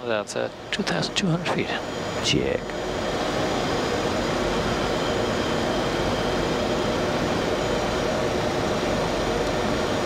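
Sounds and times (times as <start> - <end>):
jet engines: 0.0 - 10.0.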